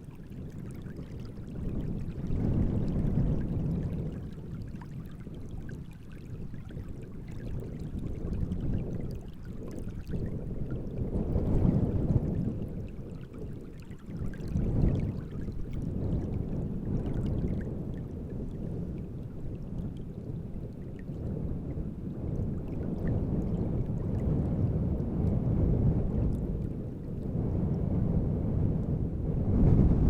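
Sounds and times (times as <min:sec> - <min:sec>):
small waves lapping: 0:00.0 - 0:24.3
wind gusting over water: 0:00.0 - 0:30.0.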